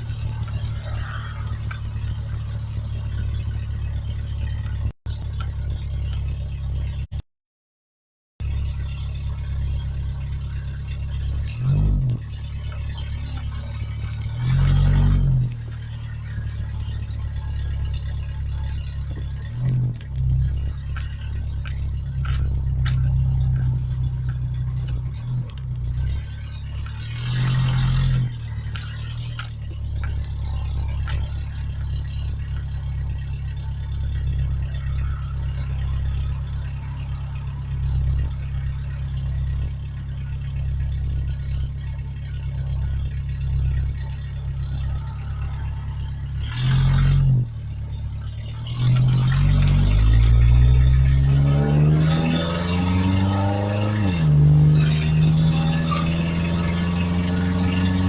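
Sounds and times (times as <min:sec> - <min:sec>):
pickup engine running: 0:00.0 - 0:07.2, 0:08.4 - 0:58.0.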